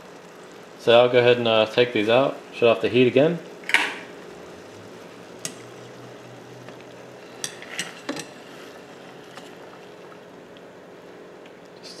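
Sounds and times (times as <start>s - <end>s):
water boiling in saucepan: 0.0s - 11.8s.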